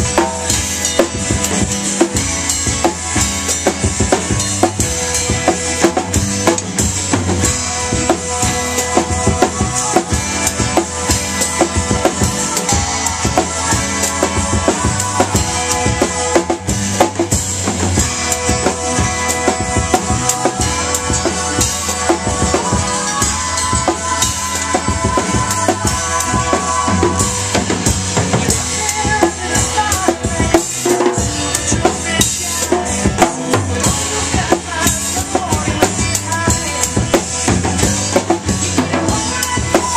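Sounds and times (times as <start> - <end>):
acoustic drum kit playing: 0.0 - 39.9
rock song recording: 0.0 - 39.9.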